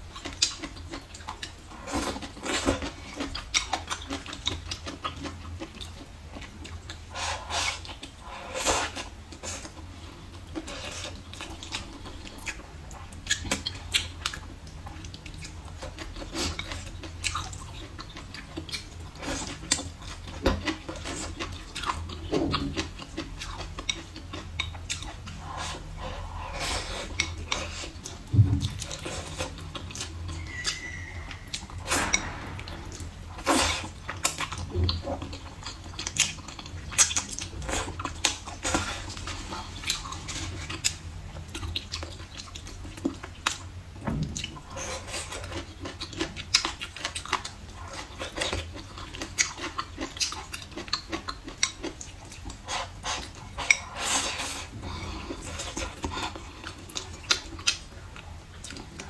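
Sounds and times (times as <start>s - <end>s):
chewing and mouth sounds: 0.0s - 59.0s.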